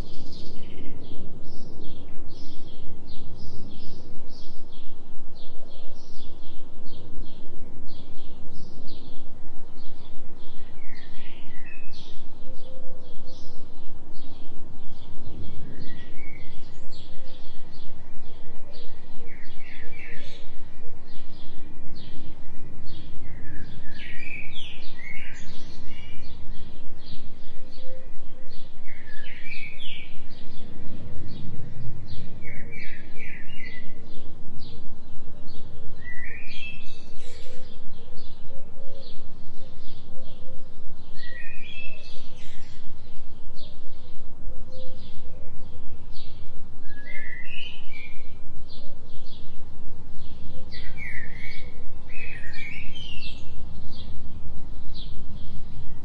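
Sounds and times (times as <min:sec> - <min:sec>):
birds chirping: 0:00.0 - 0:56.0
steady low drone tone: 0:00.0 - 0:56.0.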